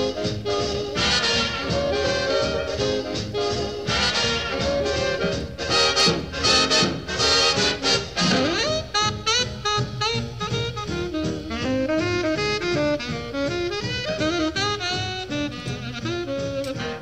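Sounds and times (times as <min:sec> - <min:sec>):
jazz horn melody over drums: 0:00.0 - 0:17.0.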